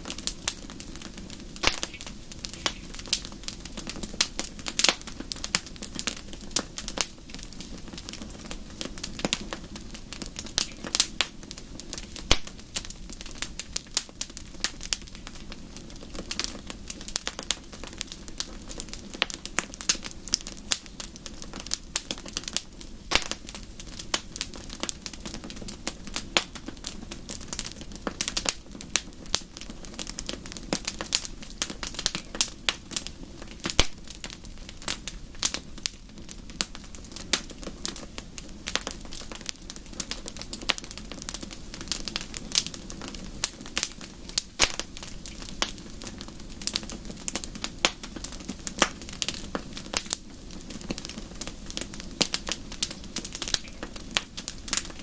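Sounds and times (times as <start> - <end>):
rush of flames: 0.0 - 55.0
wood fire crackling and popping: 0.0 - 55.0.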